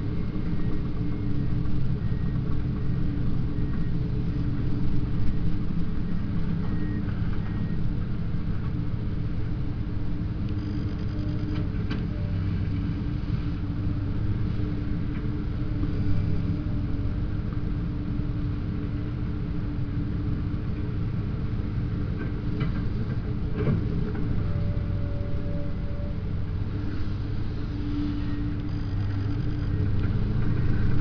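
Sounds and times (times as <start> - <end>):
excavator diesel engine humming: 0.0 - 31.0.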